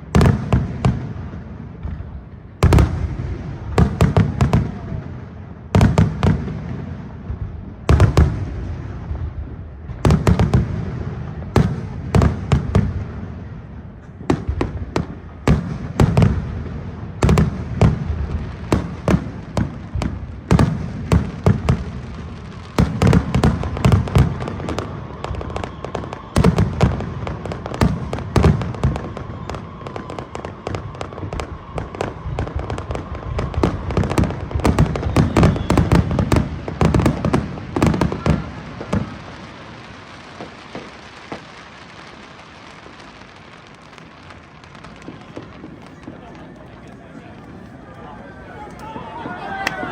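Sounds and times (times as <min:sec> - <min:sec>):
firework bangs: 0:00.0 - 0:49.9.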